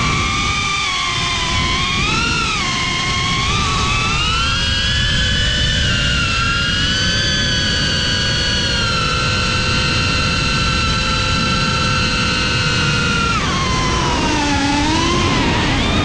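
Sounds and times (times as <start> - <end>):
drone propellers whining: 0.0 - 16.0
wind rushing over microphone: 0.0 - 16.0.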